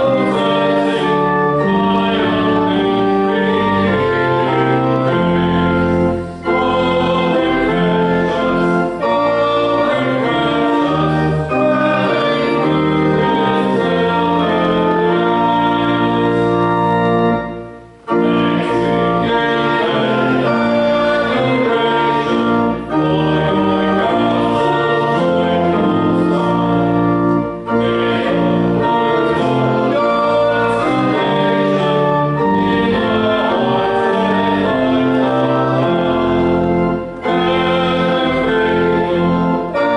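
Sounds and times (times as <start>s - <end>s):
church organ playing a hymn: 0.0s - 39.9s
voices singing along: 0.0s - 39.9s.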